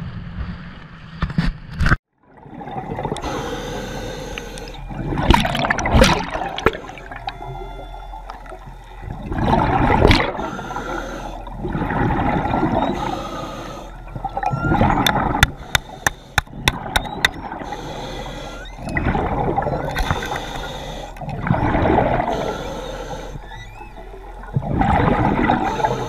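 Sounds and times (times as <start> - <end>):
diver breathing underwater: 3.0 - 26.0.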